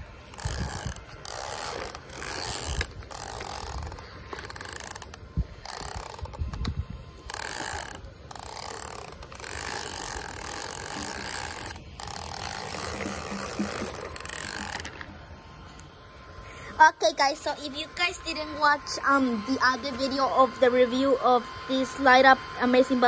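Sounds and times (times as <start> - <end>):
toy lawnmower whirring and rattling: 0.0 - 23.0.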